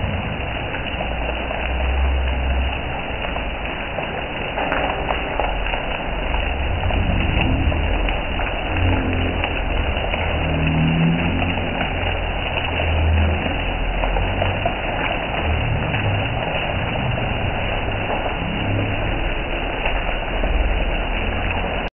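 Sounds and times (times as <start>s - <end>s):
hail and rain on concrete: 0.0s - 21.9s
low rumble: 0.0s - 21.9s.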